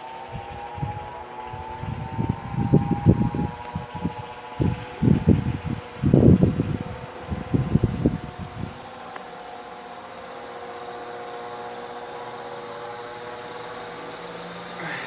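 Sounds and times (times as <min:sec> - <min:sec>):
ceiling fan humming and whining: 0:00.0 - 0:15.0.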